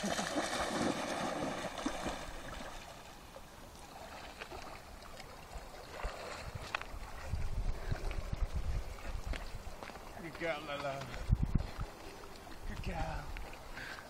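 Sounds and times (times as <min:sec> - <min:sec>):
water sloshing and lapping: 0:00.0 - 0:14.0
water splashing: 0:00.0 - 0:14.0.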